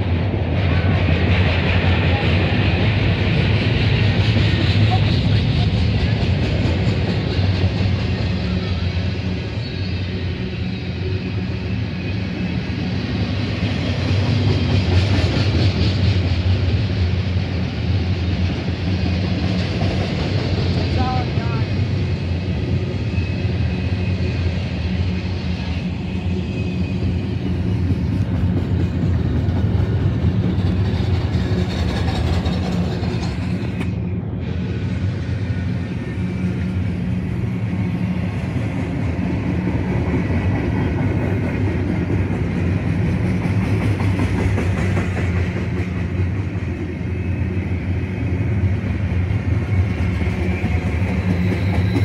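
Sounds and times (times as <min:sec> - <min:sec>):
freight train wheels rumbling on rail: 0:00.0 - 0:52.0.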